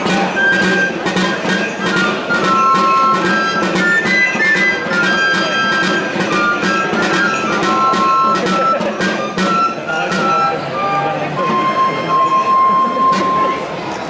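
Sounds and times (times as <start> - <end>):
high pipe melody: 0.0 - 13.6
steady drum beats: 0.0 - 13.7.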